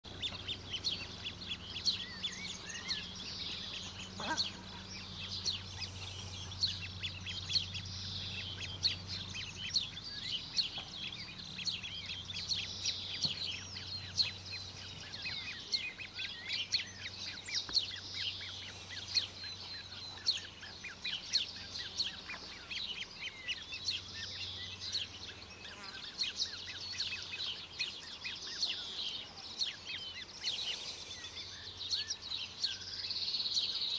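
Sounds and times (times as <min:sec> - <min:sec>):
low steady hum: 0:00.1 - 0:27.4
chicks peeping: 0:00.1 - 0:33.9.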